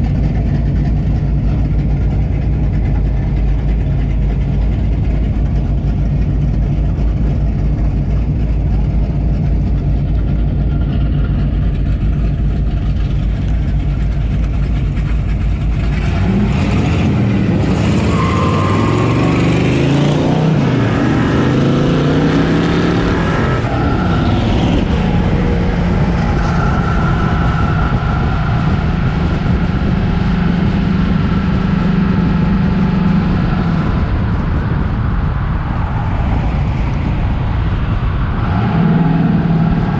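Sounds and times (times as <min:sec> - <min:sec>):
car engines revving: 0:00.0 - 0:39.9
low engine rumble: 0:00.0 - 0:39.9.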